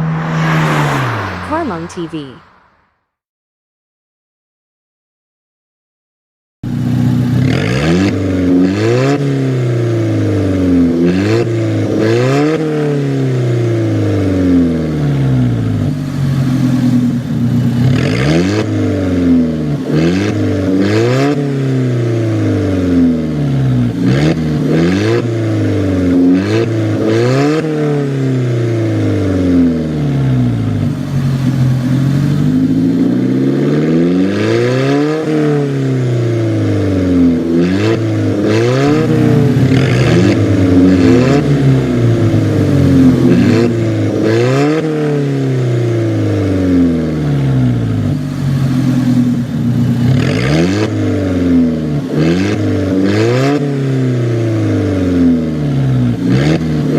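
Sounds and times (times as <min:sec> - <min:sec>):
sports car engine revving: 0:00.0 - 0:01.8, 0:06.7 - 0:56.9.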